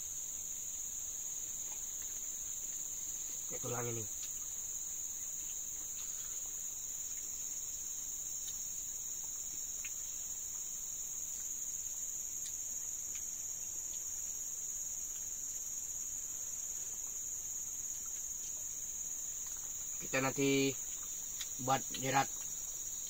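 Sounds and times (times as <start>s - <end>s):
insects shrill drone: 0.0s - 23.0s.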